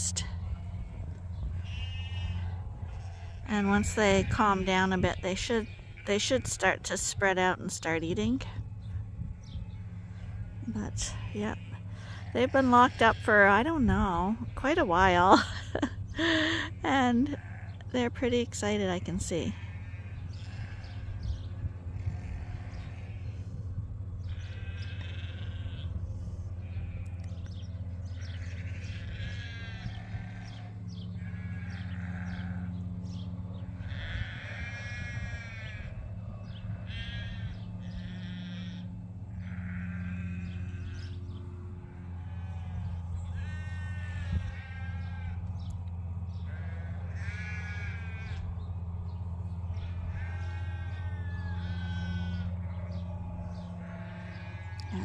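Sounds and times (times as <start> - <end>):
sheep bleating: 0.0 - 8.2, 9.4 - 23.5, 24.2 - 26.0, 26.6 - 32.8, 33.7 - 45.7, 46.4 - 48.5, 49.1 - 55.0.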